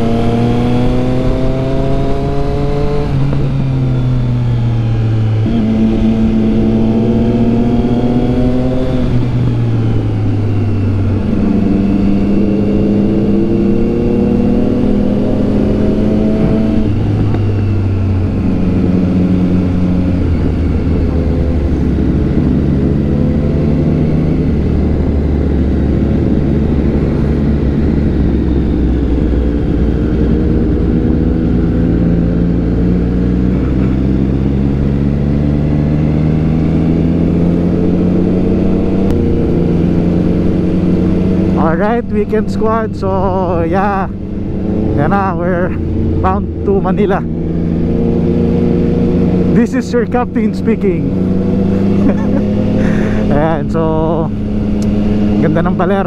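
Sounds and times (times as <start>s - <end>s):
motorcycle engine shifting gears: 0.0s - 56.0s
wind and road rush: 0.0s - 56.0s.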